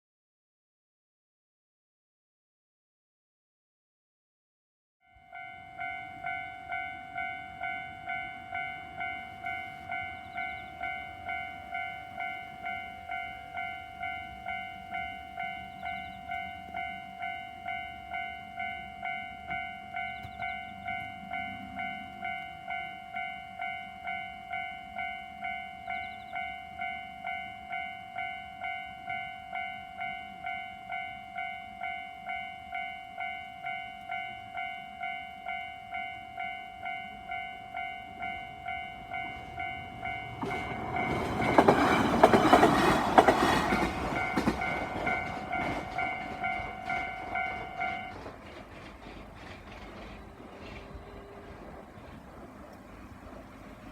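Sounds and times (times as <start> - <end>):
level crossing warning bell: 5.0 - 53.9.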